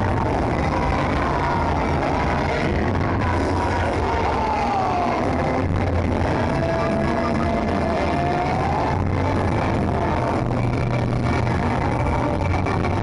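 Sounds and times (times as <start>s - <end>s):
crowd din: 0.0s - 13.0s
loud music with deep bass: 0.0s - 13.0s.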